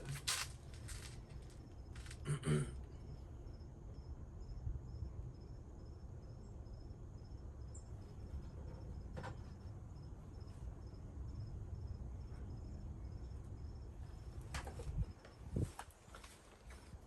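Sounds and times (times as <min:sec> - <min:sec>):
low background rumble: 0:00.0 - 0:15.8
crickets chirping: 0:00.0 - 0:17.0.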